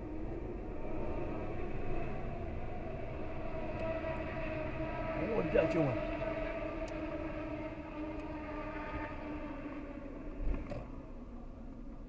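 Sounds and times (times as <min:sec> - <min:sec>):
car driving drone from inside: 0:00.0 - 0:12.0.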